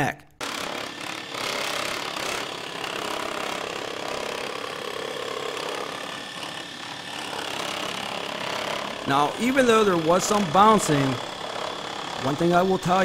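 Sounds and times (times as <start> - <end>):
scroll saw cutting wood: 0.4 - 13.0.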